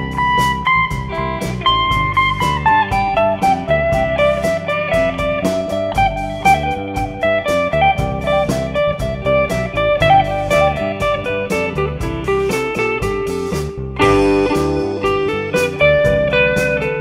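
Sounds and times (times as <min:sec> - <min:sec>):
cymbal keeping a steady beat: 0:00.0 - 0:17.0
drums: 0:00.0 - 0:17.0
electric guitar lead line: 0:00.0 - 0:17.0.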